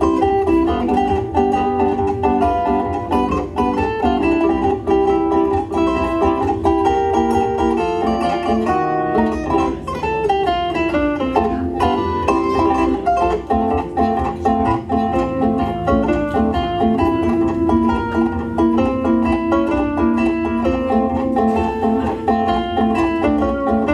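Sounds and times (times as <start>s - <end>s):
zither plucked melody: 0.0s - 23.9s.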